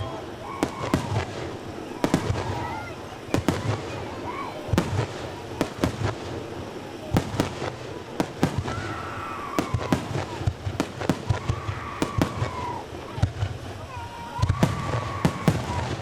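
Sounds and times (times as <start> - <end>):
fireworks cracks and bangs: 0.0 - 16.0
fireworks whistling: 0.0 - 16.0.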